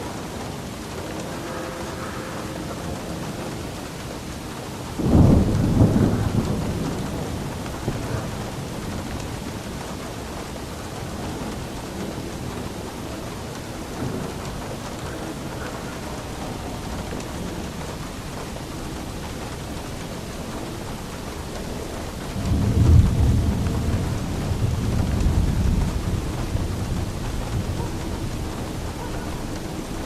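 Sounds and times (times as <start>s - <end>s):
steady rain: 0.0s - 30.0s
thunder rumbling: 0.0s - 30.0s.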